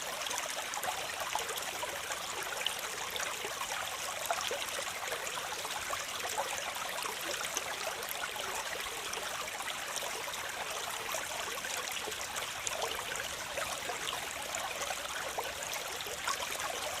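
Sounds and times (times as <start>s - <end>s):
water splashes and trickles: 0.0s - 17.0s.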